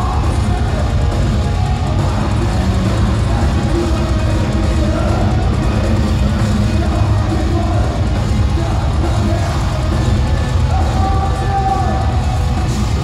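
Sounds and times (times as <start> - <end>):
bass guitar: 0.0 - 13.0
distorted guitars: 0.0 - 13.0
drum kit: 0.0 - 13.0.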